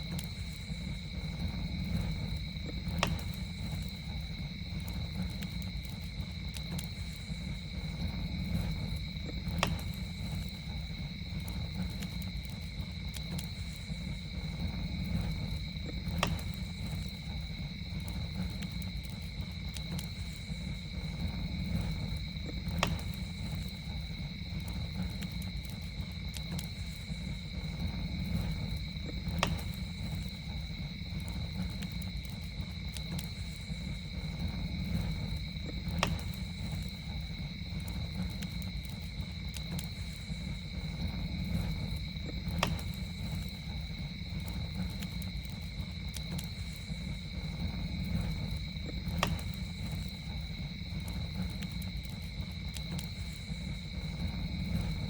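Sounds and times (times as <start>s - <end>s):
campfire crackling: 0.0s - 55.0s
high insect trill: 0.0s - 55.0s
steady low rumble: 0.0s - 55.0s
sharp fire pops: 0.1s - 55.0s.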